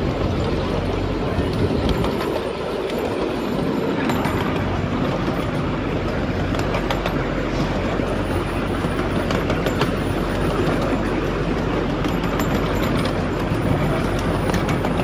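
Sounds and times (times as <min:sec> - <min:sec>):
faint wheel clicks on rails: 0:00.0 - 0:15.0
moving train rumble: 0:00.0 - 0:15.0.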